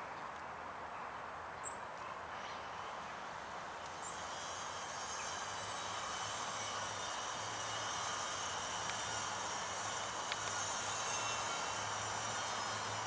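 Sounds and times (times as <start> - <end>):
distant transport noise: 1.4 - 13.0
thin high whine: 2.3 - 13.0.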